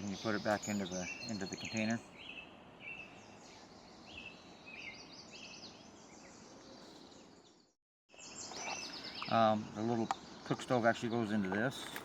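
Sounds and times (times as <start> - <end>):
faint outdoor hiss: 0.0 - 12.0
small birds chirping: 0.0 - 12.0.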